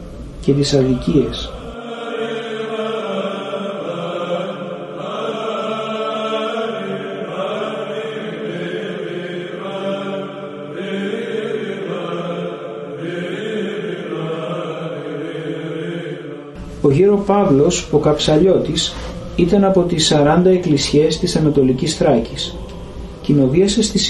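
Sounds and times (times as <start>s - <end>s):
low vocal drone: 0.0s - 24.0s
voices chanting: 0.5s - 24.0s.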